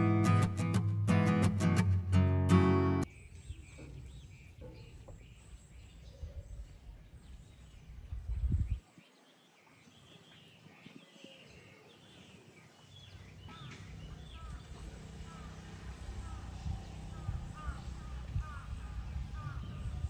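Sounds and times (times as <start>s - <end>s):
small birds chirping: 3.0s - 20.0s.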